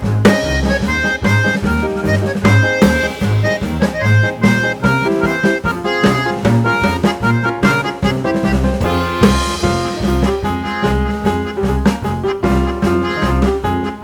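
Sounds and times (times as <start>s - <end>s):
upbeat instrumental music: 0.0s - 14.0s.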